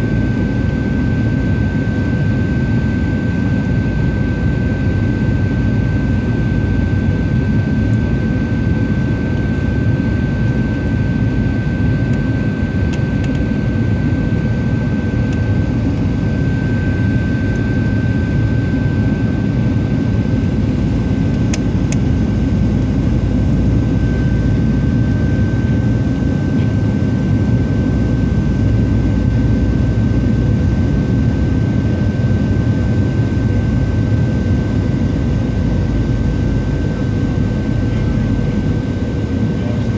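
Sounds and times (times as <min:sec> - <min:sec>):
jet engine roar: 0:00.0 - 0:39.9
steady high whine: 0:00.0 - 0:39.9.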